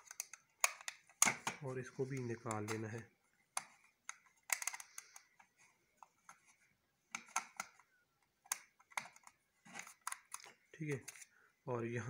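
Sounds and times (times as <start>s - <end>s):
plastic parts clicking and rattling: 0.0s - 11.3s.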